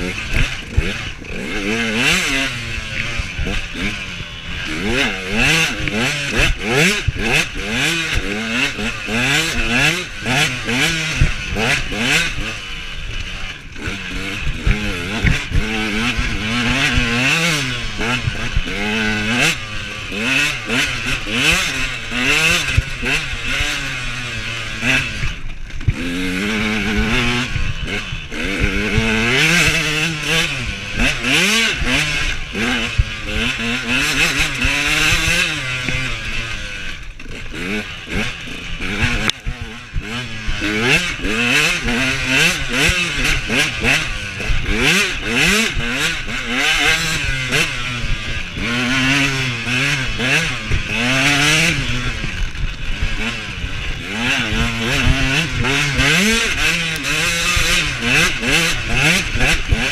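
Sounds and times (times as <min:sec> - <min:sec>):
bike rattling over rough ground: 0:00.0 - 0:59.9
two-stroke motorcycle revving: 0:00.0 - 0:59.9.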